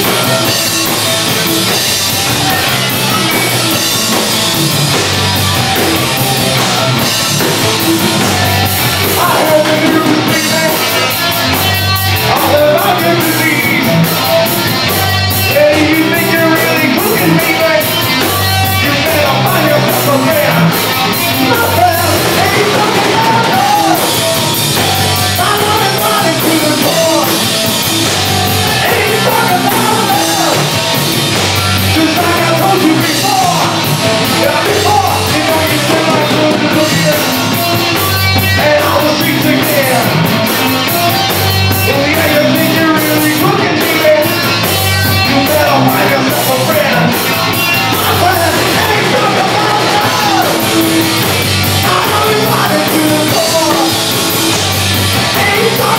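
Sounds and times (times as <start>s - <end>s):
bass guitar: 0.0s - 55.9s
drum kit: 0.0s - 55.9s.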